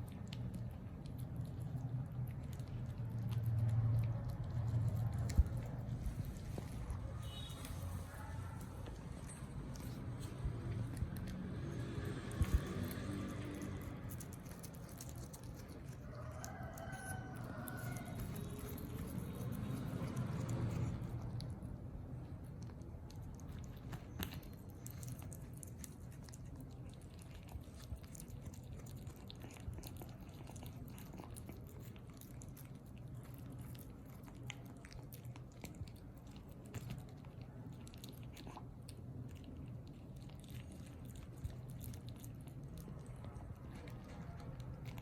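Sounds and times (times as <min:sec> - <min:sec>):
kittens chewing: 0:00.0 - 0:45.0.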